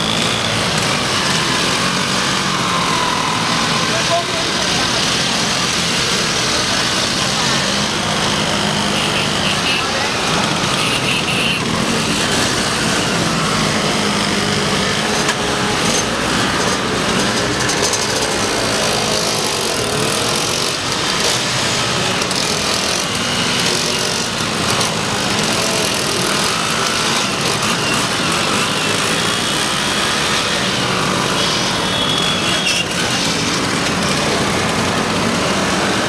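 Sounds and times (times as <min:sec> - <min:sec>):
scooter engines running: 0:00.0 - 0:36.0.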